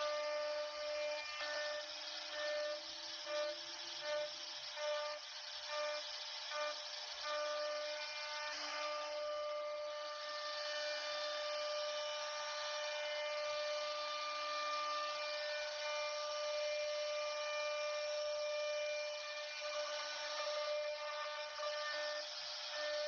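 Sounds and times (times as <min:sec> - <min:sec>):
hiss of router cutting: 0:00.0 - 0:23.0
router spindle whining: 0:00.0 - 0:23.0.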